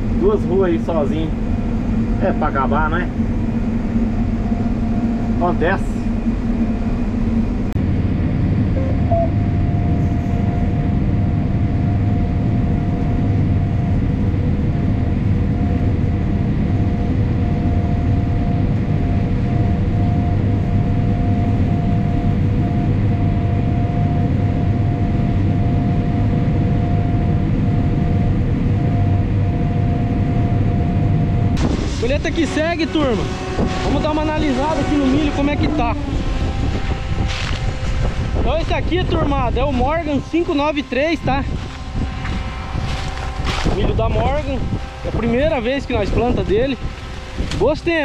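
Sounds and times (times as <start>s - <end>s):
combine harvester drone: 0.0s - 48.0s
constant machine whine: 0.0s - 48.0s.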